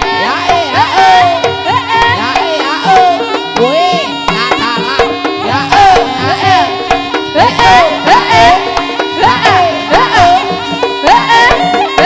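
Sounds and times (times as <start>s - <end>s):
hand drum strokes: 0.0s - 12.0s
wailing lead melody: 0.0s - 12.0s.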